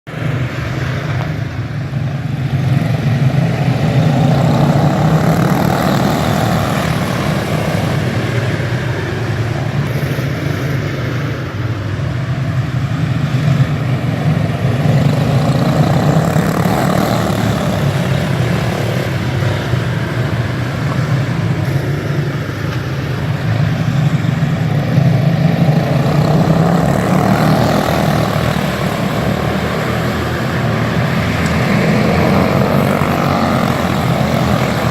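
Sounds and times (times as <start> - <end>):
go-kart engines passing: 0.1 - 34.9.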